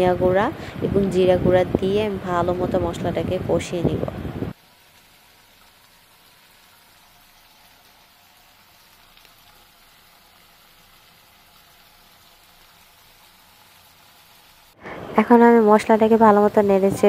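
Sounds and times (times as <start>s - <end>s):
faint sizzling of frying in oil: 0.0s - 17.0s.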